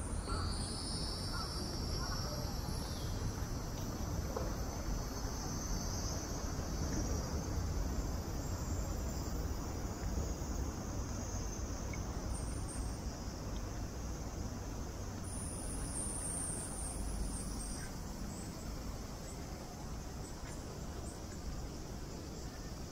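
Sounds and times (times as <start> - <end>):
cicadas buzzing: 0.0 - 22.9.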